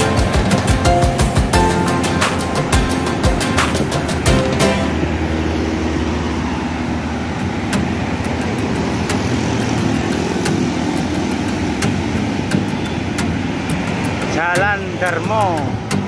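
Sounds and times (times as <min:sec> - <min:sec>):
passing cars and motorbikes: 0:00.0 - 0:16.0.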